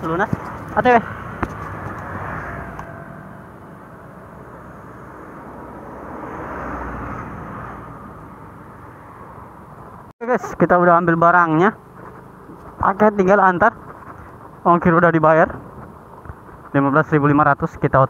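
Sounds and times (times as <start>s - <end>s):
passing traffic: 0.0s - 18.0s
scooter engine and road noise: 0.0s - 18.0s.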